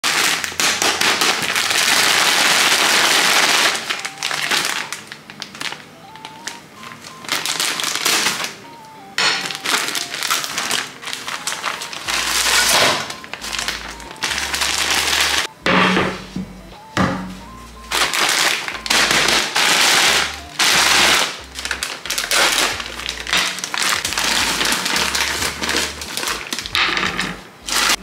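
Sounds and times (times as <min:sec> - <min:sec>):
plastic bag crinkling: 0:00.0 - 0:15.5, 0:17.8 - 0:28.0
soft background music: 0:00.1 - 0:28.0.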